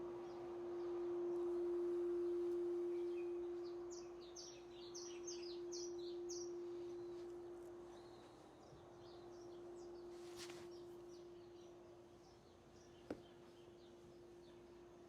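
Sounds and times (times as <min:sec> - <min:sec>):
steady ringing tone: 0:00.0 - 0:12.1
bird chirping: 0:00.0 - 0:15.0.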